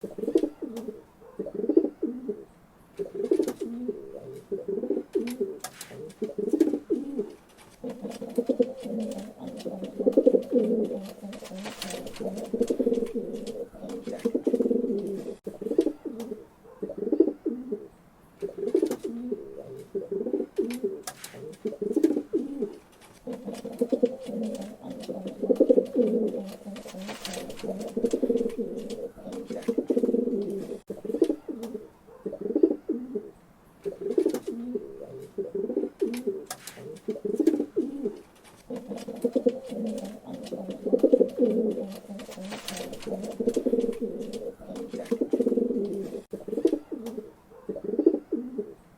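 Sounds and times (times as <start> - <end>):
pigeons cooing: 0.0 - 48.8.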